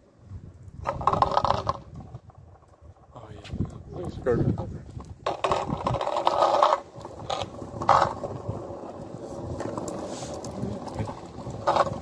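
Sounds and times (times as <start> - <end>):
kick scooter rattling on pavement: 0.7 - 12.0.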